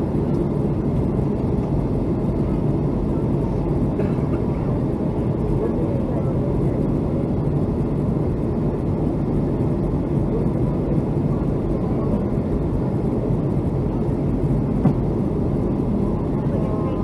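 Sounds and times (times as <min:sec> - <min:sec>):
aircraft cabin engine noise: 0:00.0 - 0:17.0.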